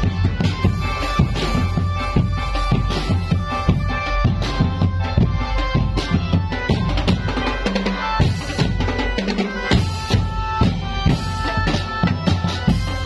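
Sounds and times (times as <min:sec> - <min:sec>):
held melody line: 0:00.0 - 0:13.0
marching bass drums: 0:00.0 - 0:13.0.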